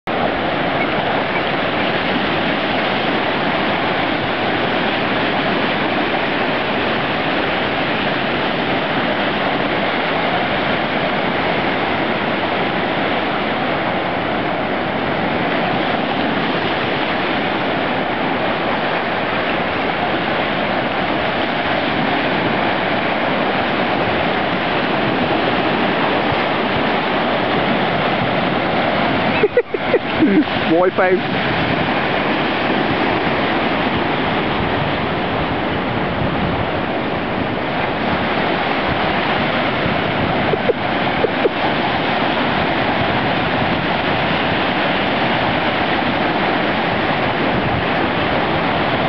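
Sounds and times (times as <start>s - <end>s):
sea surf breaking: 0.1s - 49.0s.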